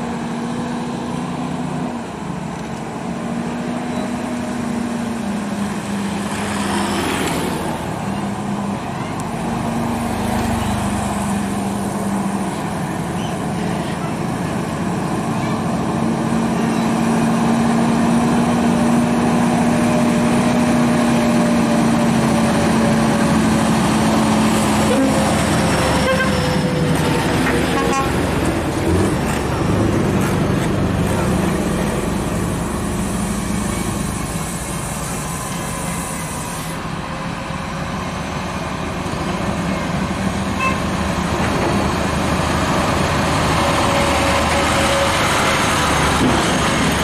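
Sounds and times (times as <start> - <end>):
road noise: 0.0 - 47.0
truck diesel engine running: 7.7 - 47.0.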